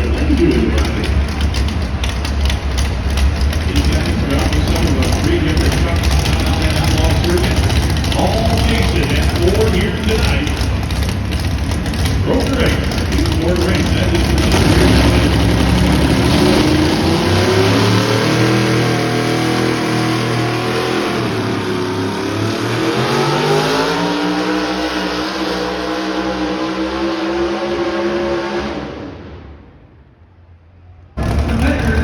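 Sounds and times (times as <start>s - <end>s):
truck engine running hard: 0.0s - 30.2s, 31.2s - 32.0s.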